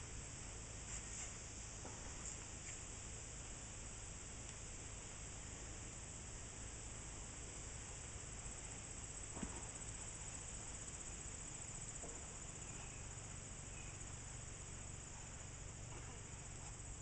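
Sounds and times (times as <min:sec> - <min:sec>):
insects trilling: 0:01.4 - 0:17.0.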